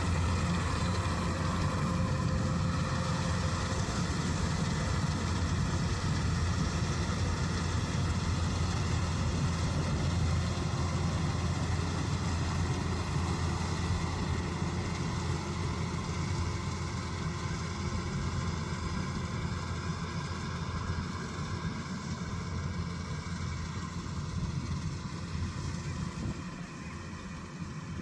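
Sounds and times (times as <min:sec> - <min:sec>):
combine harvester engine running: 0:00.0 - 0:28.0.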